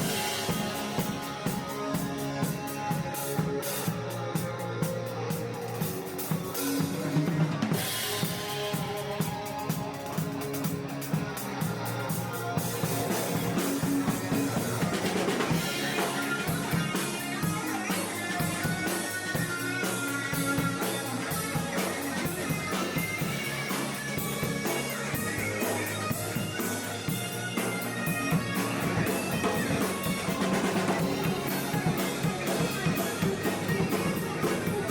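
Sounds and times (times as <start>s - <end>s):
drum kit steady beat: 0.0s - 34.9s
guitar: 0.0s - 34.9s.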